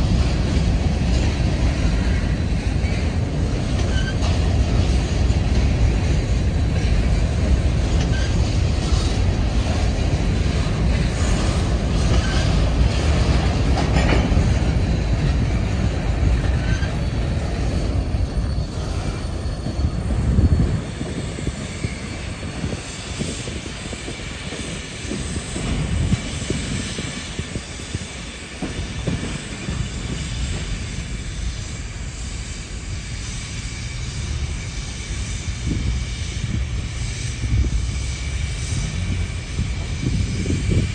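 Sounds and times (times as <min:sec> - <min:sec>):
train wheels rumbling on rails: 0:00.0 - 0:40.9
faint high wheel squeal: 0:01.0 - 0:40.9.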